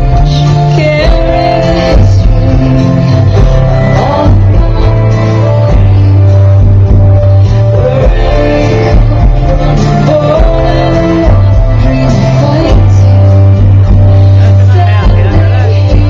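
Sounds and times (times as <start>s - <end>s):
guitar music with bass line: 0.0s - 16.0s.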